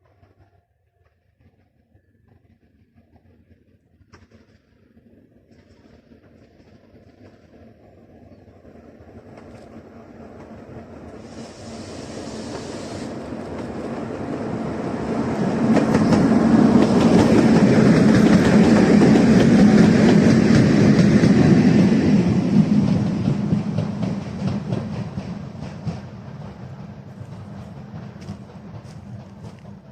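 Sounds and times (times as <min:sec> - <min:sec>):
train passing with low hum: 0:00.0 - 0:29.9.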